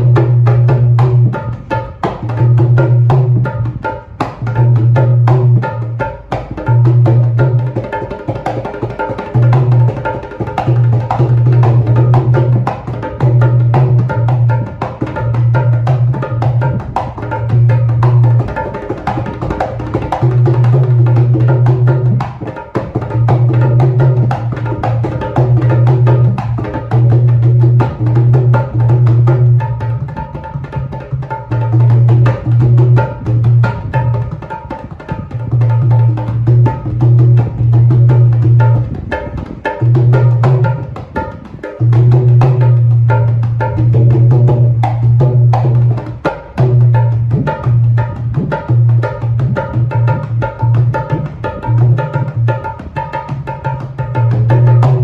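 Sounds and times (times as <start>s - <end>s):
dholak bass boom: 0.0s - 55.0s
dholak treble strokes: 0.0s - 55.0s.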